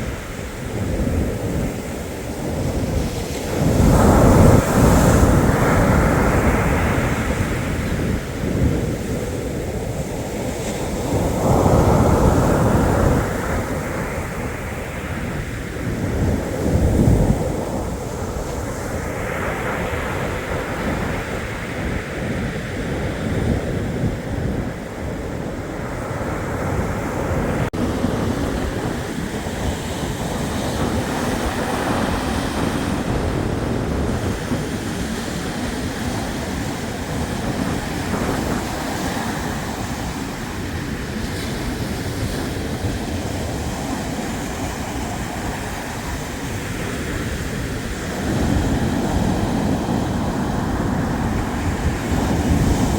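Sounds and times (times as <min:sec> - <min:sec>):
surf breaking on shore: 0:00.0 - 0:52.9
wind rumbling on microphone: 0:00.0 - 0:52.9.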